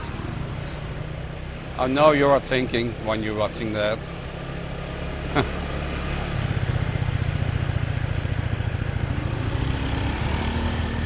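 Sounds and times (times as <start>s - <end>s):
motorbike engine rumbling: 0.0s - 11.0s
road noise: 0.0s - 11.0s.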